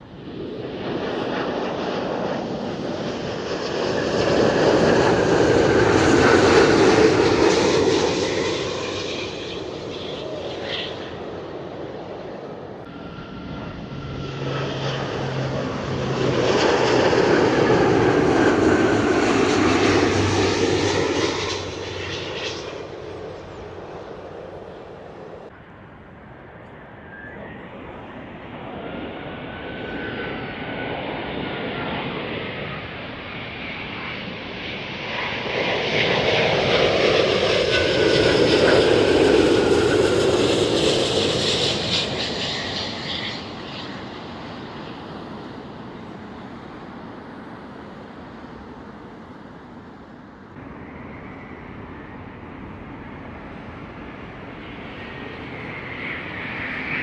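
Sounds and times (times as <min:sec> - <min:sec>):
jet airliner roar overhead: 0:00.0 - 0:57.0.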